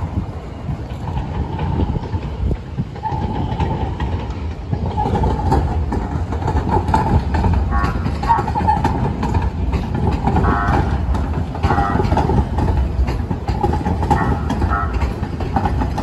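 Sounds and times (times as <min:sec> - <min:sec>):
train wheels rumbling on rail: 0:00.0 - 0:16.0
train whine: 0:00.0 - 0:16.0
clicks over rail joints: 0:00.7 - 0:16.0.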